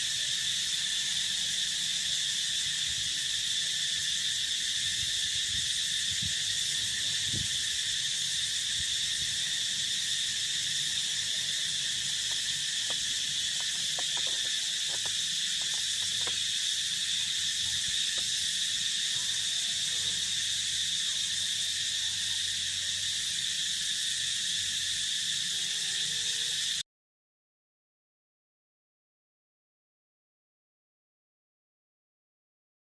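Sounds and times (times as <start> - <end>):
field insects trilling: 0.0 - 26.8.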